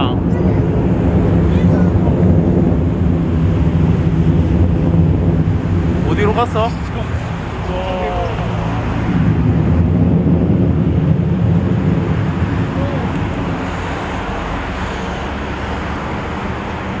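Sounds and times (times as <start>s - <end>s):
jet aircraft roar overhead: 0.0s - 17.0s.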